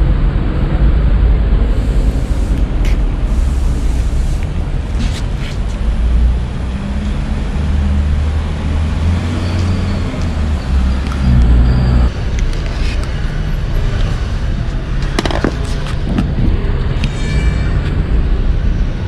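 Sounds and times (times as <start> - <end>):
vehicle engine running low: 0.0 - 17.1
road noise: 0.0 - 19.0.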